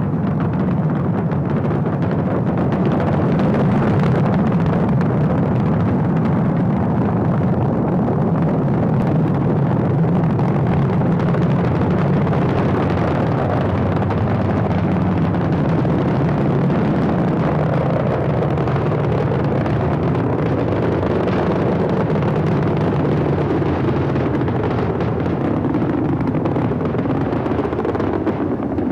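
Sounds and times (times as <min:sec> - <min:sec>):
rocket engines deep rumbling: 0:00.0 - 0:28.9.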